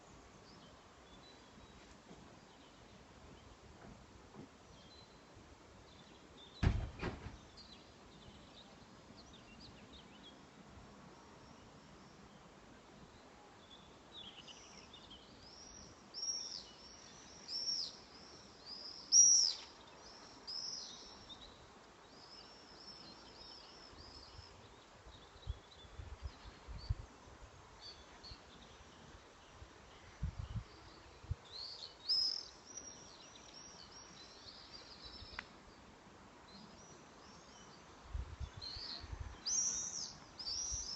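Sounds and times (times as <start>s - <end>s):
faint outdoor background: 0.0s - 40.9s
songbirds chirping: 0.0s - 40.9s.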